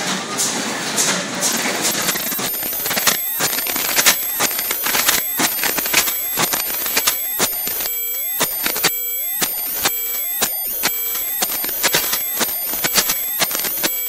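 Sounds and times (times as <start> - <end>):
sharp steel clicks and clanks: 1.5 - 14.0
ringing tone: 1.6 - 14.0.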